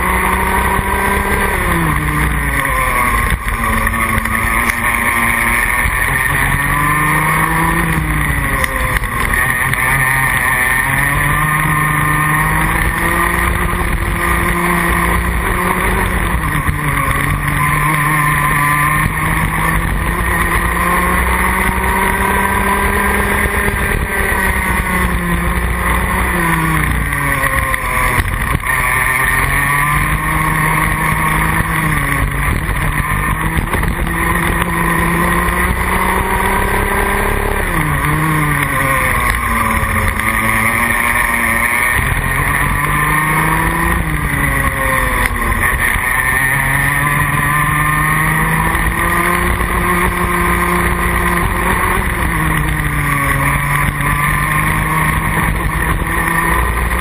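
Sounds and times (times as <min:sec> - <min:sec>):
two-stroke kart engine revving: 0:00.0 - 0:57.0.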